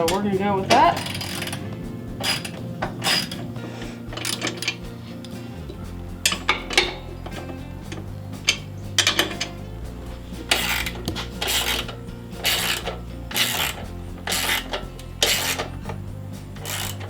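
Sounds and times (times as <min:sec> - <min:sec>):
ratchet wrench clicking: 0:00.0 - 0:17.0.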